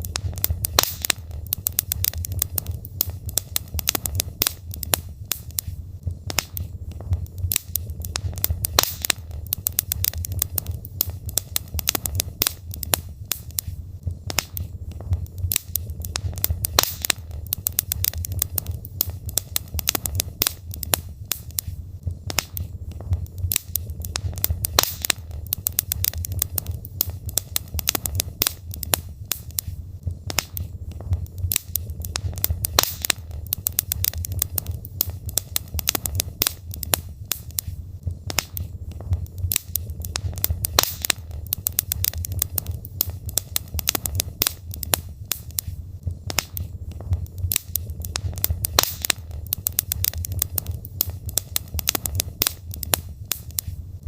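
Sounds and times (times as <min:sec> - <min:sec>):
burning logs crackling and popping: 0:00.0 - 0:54.0
low rumble of fire: 0:00.0 - 0:54.0.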